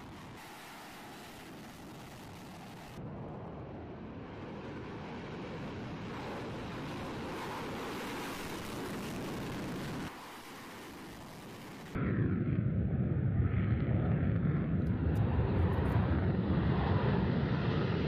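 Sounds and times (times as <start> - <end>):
fighter jets taking off: 0.0 - 18.0.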